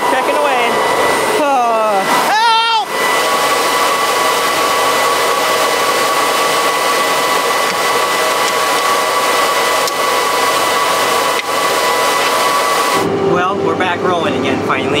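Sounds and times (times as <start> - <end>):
constant high whine: 0.0 - 15.0
tractor running: 0.0 - 15.0.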